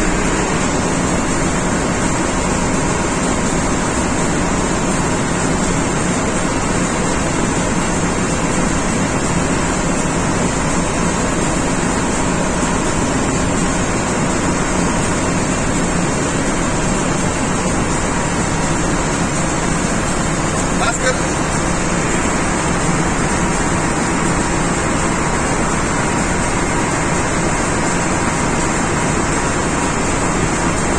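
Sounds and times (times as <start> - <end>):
machinery roar and hiss: 0.0 - 30.9.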